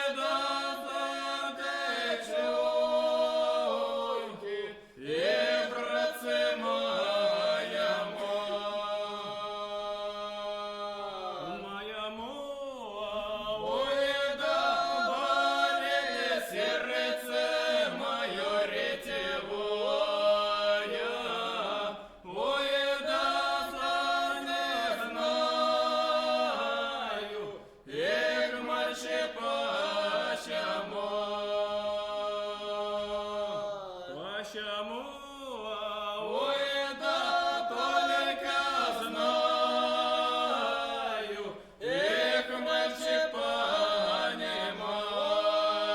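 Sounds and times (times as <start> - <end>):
vocal trio singing unaccompanied: 0.0 - 45.9.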